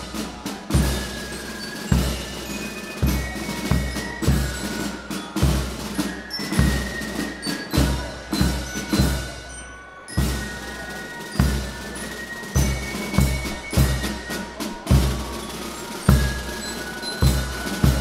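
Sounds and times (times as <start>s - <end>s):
snare drum: 0.0s - 9.5s, 10.2s - 18.0s
mallet percussion notes: 0.0s - 18.0s.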